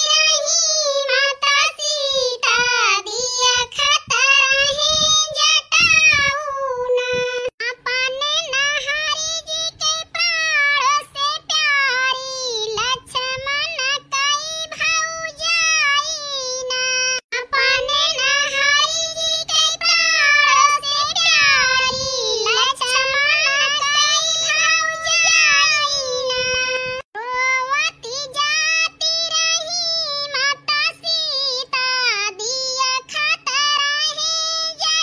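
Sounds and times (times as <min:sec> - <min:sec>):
high-pitched voice singing: 0:00.0 - 0:35.0.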